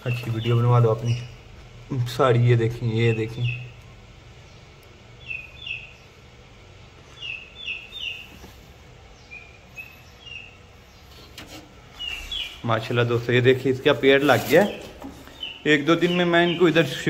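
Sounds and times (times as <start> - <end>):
low steady background hum: 0.0 - 17.0
small birds chirping: 0.0 - 17.0.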